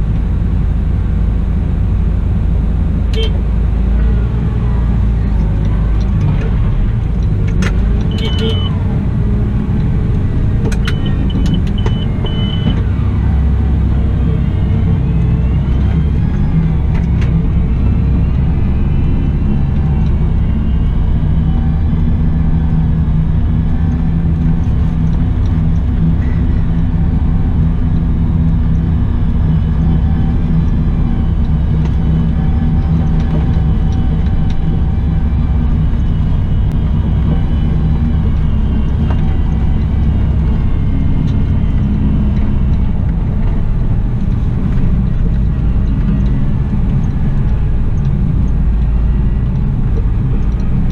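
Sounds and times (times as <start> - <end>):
diesel engine running: 0.0 - 50.9
faint whine: 0.0 - 50.9.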